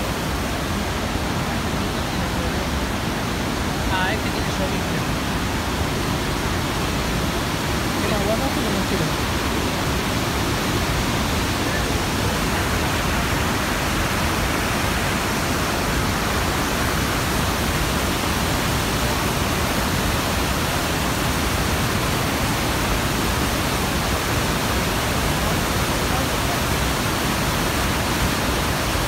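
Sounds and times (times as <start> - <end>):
river rapids: 0.0 - 29.0
waterfall rushing: 0.0 - 29.0.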